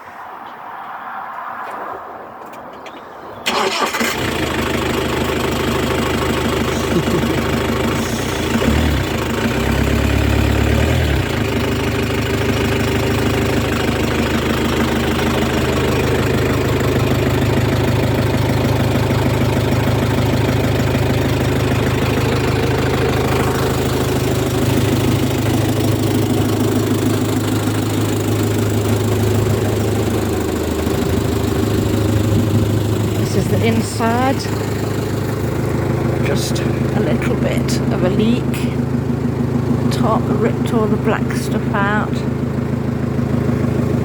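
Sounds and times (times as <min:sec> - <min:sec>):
diesel engine idling: 0:03.4 - 0:44.0.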